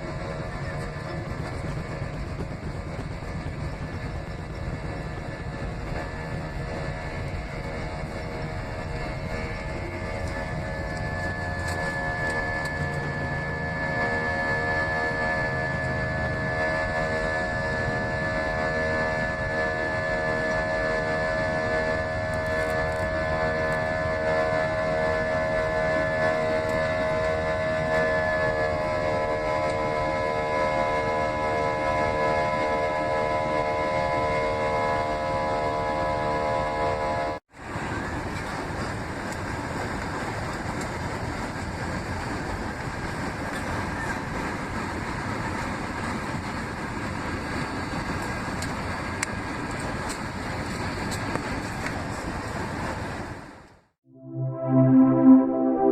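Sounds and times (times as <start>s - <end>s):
airliner engine drone in cabin: 0.0s - 55.9s.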